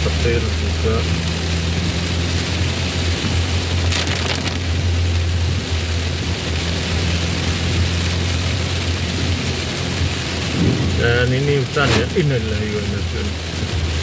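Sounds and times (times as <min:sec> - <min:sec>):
engine low drone: 0:00.0 - 0:14.0
heavy rain on vehicle roof: 0:00.0 - 0:14.0.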